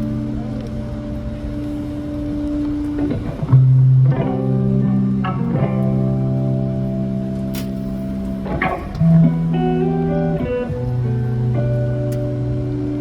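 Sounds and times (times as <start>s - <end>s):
bass guitar: 0.0s - 13.0s
guitar chords: 0.0s - 13.0s.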